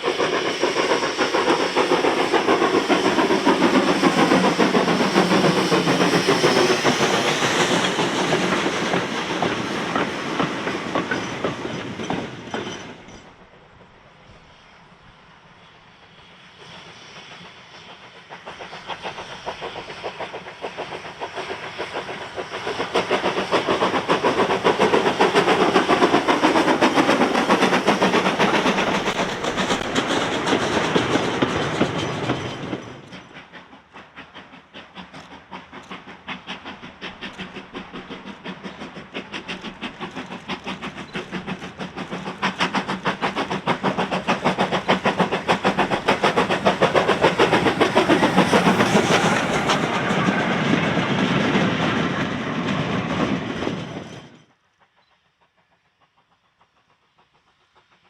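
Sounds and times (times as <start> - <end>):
train passing: 0.0 - 58.0.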